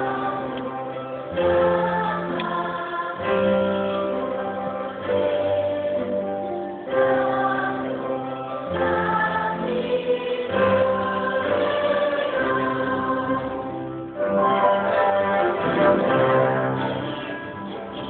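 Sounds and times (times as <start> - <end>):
orchestra and choir performing: 0.0 - 18.0.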